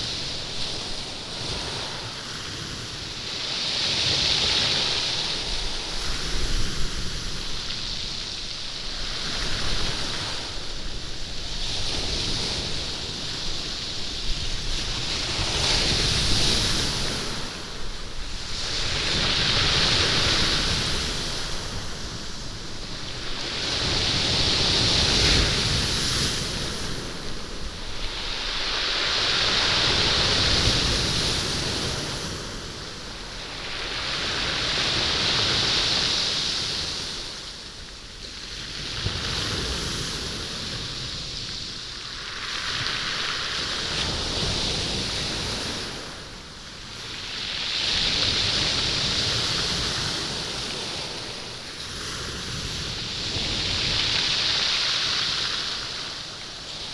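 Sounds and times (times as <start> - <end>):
waves washing over stone beach: 0.0 - 56.9.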